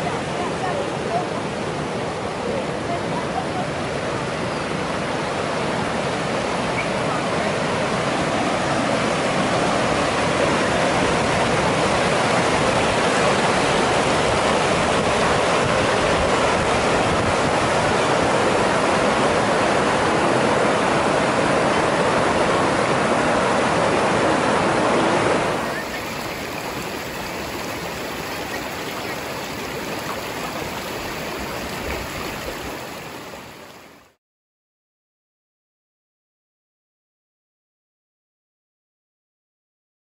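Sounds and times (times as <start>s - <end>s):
river rapids rushing: 0.0s - 34.1s.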